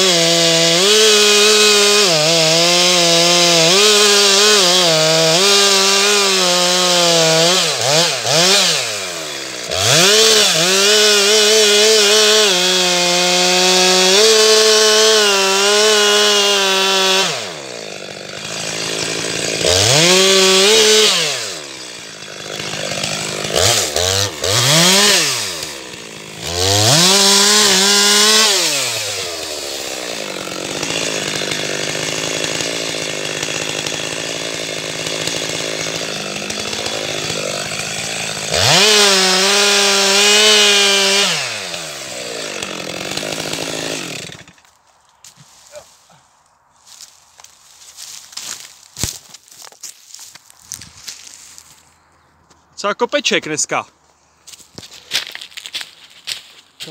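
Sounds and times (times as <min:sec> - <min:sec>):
chainsaw cutting wood: 0:00.0 - 0:46.2, 0:46.8 - 0:51.9, 0:54.4 - 0:56.9.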